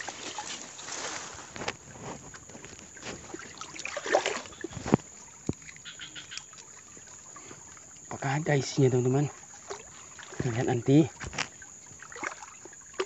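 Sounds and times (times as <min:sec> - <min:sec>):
leafy plants rustling: 0:00.0 - 0:08.0, 0:08.6 - 0:12.6
small crackles: 0:00.0 - 0:08.2, 0:09.4 - 0:12.7
muddy water sloshing: 0:00.0 - 0:13.0.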